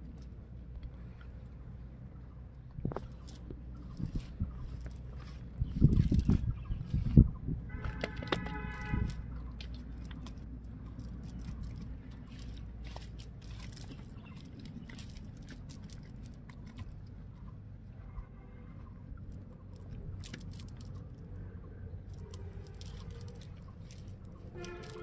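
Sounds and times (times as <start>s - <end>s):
rustling of wet net and leaves: 2.8s - 18.0s, 18.7s - 21.4s, 22.0s - 25.0s.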